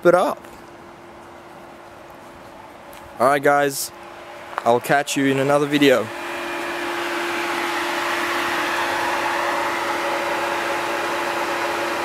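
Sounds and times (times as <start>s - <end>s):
radiator fan whirring: 0.0s - 12.0s.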